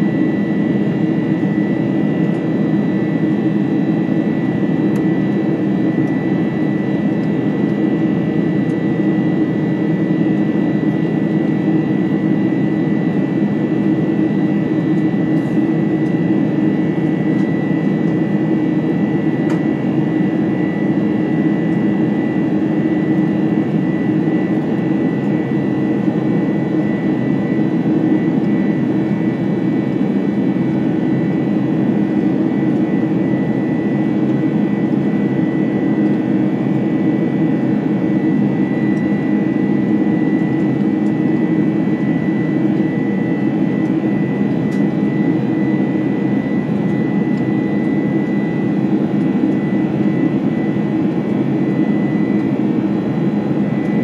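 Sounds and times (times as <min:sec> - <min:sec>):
high engine whine: 0:00.0 - 0:54.0
jet engine cabin roar: 0:00.0 - 0:54.0.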